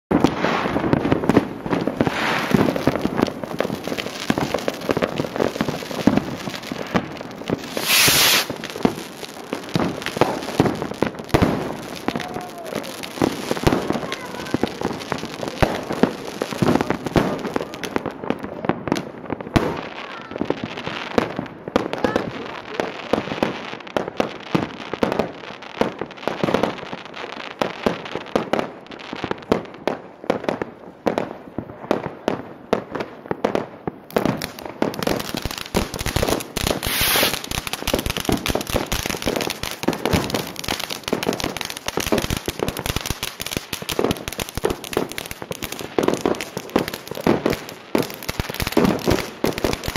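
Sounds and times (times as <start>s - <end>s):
sharp pops and crackles: 0.1s - 22.9s, 32.4s - 49.9s.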